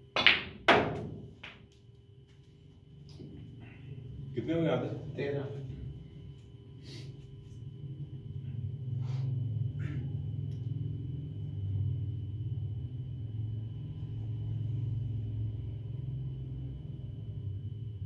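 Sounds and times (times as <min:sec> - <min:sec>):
low rumbling room hum: 0:00.0 - 0:18.0.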